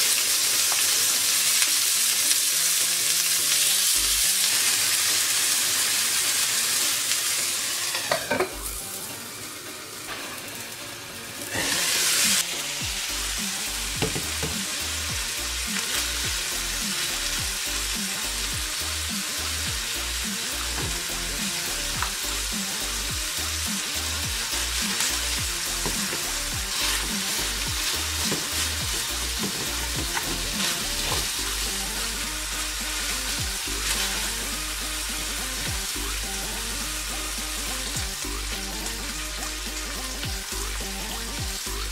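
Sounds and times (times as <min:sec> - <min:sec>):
meat sizzling in a pan: 0:00.0 - 0:41.9.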